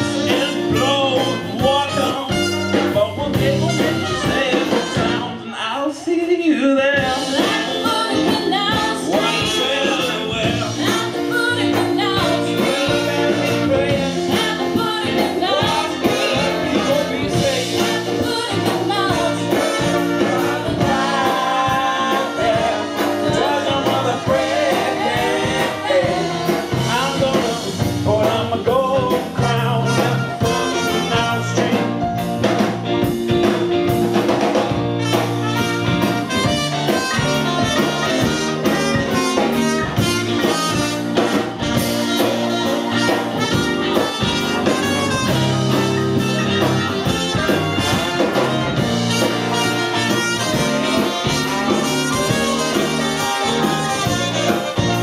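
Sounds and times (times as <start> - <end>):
electric bass: 0.0 - 5.5, 6.8 - 55.0
brass section: 0.0 - 5.9, 7.0 - 55.0
people singing: 0.0 - 32.1, 41.3 - 55.0
electric guitars: 7.0 - 55.0.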